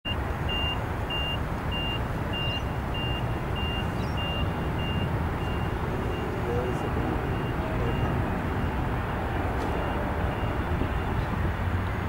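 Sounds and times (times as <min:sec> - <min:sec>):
reversing alarm beeps: 0:00.1 - 0:08.9, 0:09.7 - 0:11.3
jet engines rumbling: 0:00.4 - 0:12.0.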